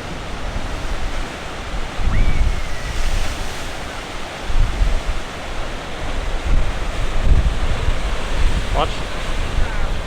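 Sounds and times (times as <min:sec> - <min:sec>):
waves crashing against cliffs: 0:00.0 - 0:10.0
wind buffeting microphone: 0:00.0 - 0:10.0.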